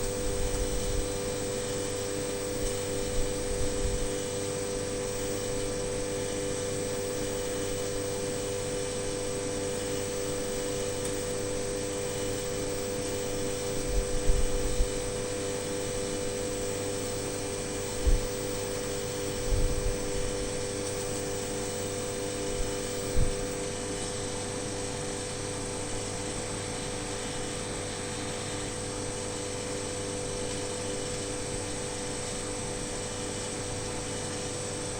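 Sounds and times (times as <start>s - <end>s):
mechanical hum with whine: 0.0s - 34.9s.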